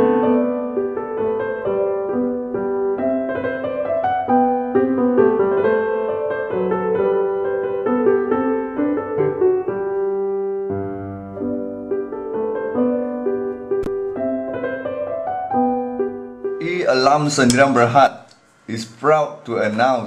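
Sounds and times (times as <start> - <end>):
piano music: 0.0 - 18.1.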